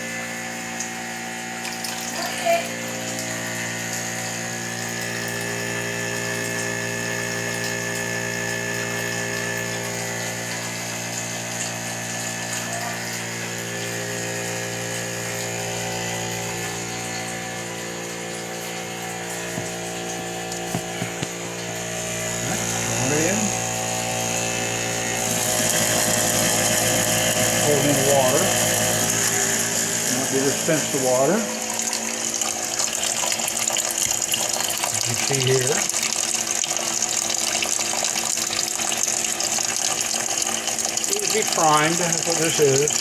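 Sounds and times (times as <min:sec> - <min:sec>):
water pump humming: 0:00.0 - 0:43.0.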